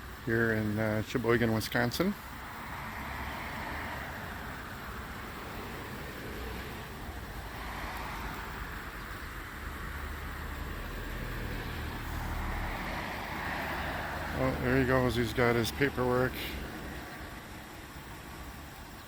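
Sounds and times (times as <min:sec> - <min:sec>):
passing cars rushing: 0:00.0 - 0:19.0.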